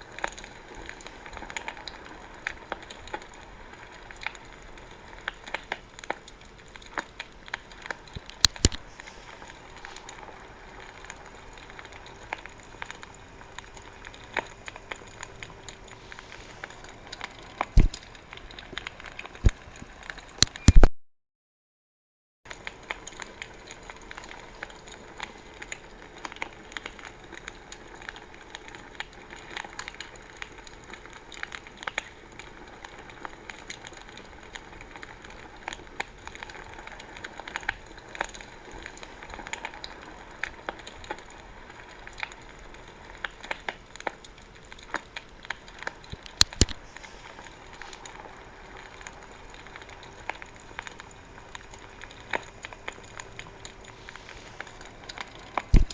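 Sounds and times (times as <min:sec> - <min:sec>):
loud fire snap: 0:00.0 - 0:20.9, 0:22.5 - 0:55.9
wood fire crackling and popping: 0:00.0 - 0:20.9, 0:22.5 - 0:55.9.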